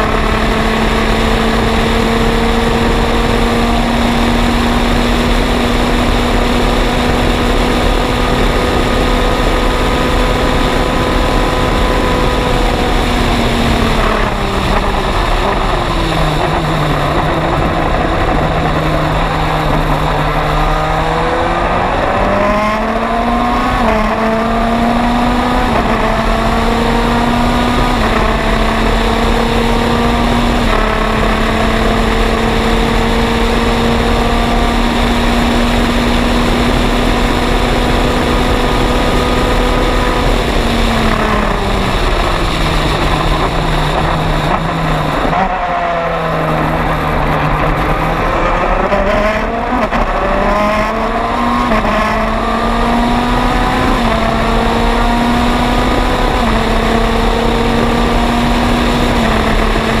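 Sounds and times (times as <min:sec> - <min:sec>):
racing car engine: 0:00.0 - 1:00.0.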